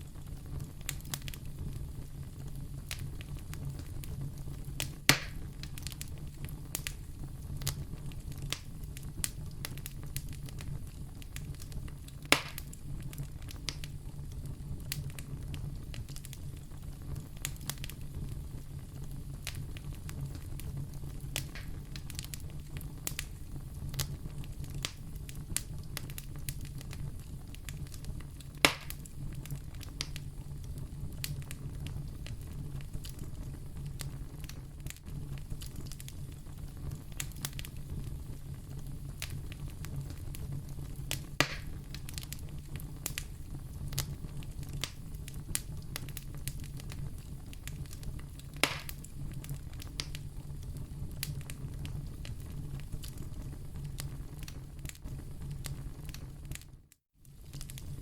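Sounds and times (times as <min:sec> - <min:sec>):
wood fire crackling: 0:00.0 - 0:58.0
loud fire pops: 0:00.1 - 0:56.7, 0:57.3 - 0:58.0.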